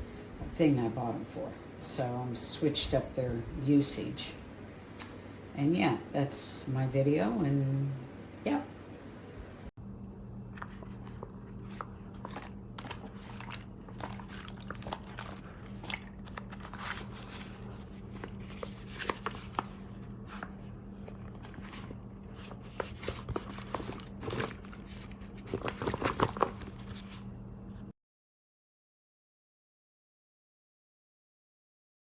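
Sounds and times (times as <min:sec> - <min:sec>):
low electrical hum: 0:00.0 - 0:27.9.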